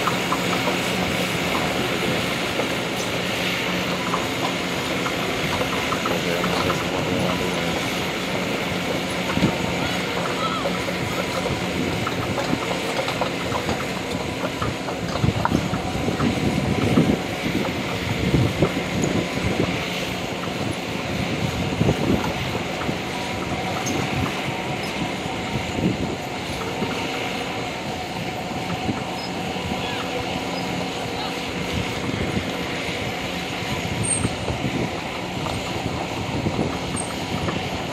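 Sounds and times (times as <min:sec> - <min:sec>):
excavator diesel engine: 0:00.0 - 0:37.9
track links clanking: 0:00.0 - 0:37.9.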